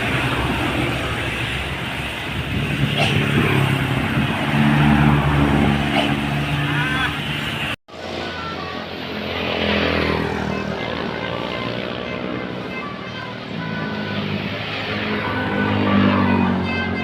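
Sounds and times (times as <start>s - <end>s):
heavy vehicle engine droning: 0.0s - 17.0s
vehicle passing by: 0.0s - 17.0s.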